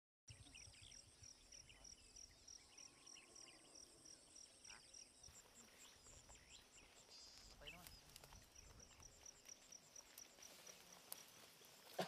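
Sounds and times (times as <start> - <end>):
insect chirp pulsing: 0.3 - 12.0.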